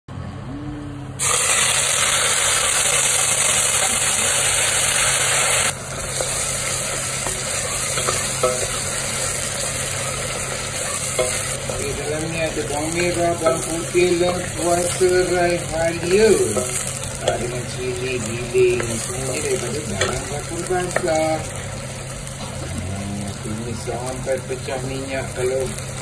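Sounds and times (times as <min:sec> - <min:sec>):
spice paste sizzling in oil: 0:01.2 - 0:26.0.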